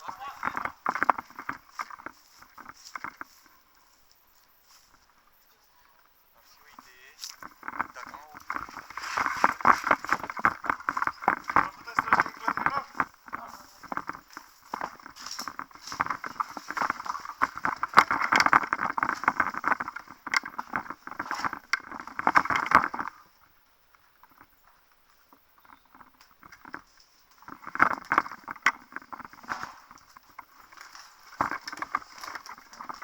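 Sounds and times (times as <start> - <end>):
clothing and gear rustling: 0.0 - 5.4, 6.5 - 23.3, 24.0 - 33.0
quick irregular footsteps: 0.0 - 5.4, 6.4 - 33.0.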